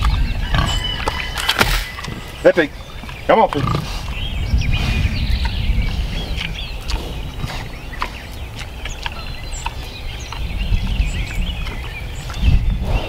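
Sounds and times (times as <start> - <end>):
small birds chirping: 0.0 - 13.0
steady low rumble: 1.7 - 13.0.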